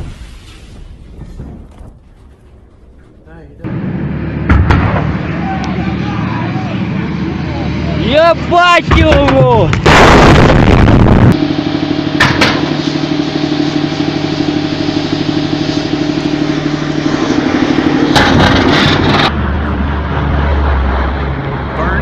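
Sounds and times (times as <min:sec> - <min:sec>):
vehicle engine pulsing: 0:01.0 - 0:22.0
propeller plane engines droning: 0:01.2 - 0:22.0
loud rushing noise burst: 0:03.7 - 0:21.4.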